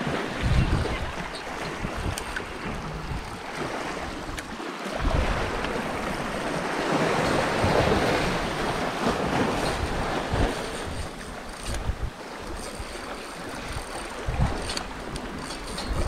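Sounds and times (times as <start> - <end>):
waves splashing against rocks: 0.0 - 16.0
wind rumble on microphone: 0.0 - 16.0.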